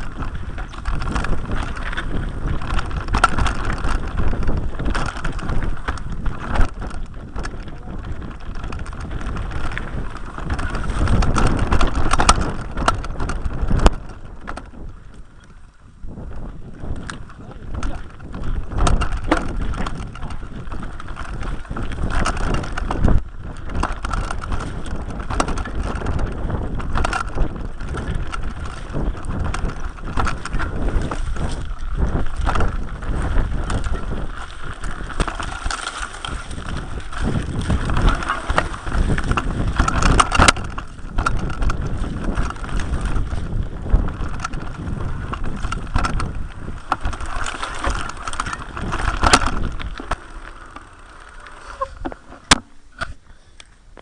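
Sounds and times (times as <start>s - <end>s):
tyre noise: 0.0s - 15.3s, 16.1s - 54.0s
bike rattling and knocking: 0.0s - 53.3s
wind on microphone: 0.0s - 54.0s.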